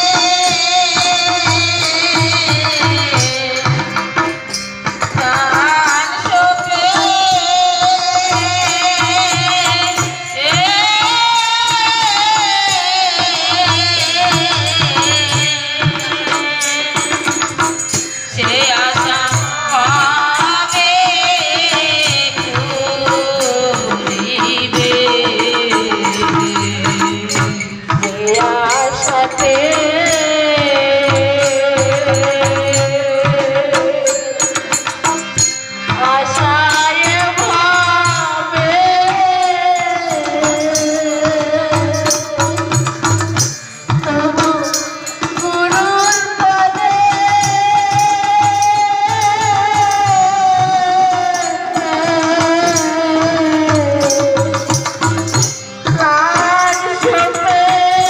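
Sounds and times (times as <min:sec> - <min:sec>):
hand drum beat: 0:00.0 - 0:58.0
harmonium: 0:00.0 - 0:58.0
women singing devotional song: 0:00.0 - 0:58.0.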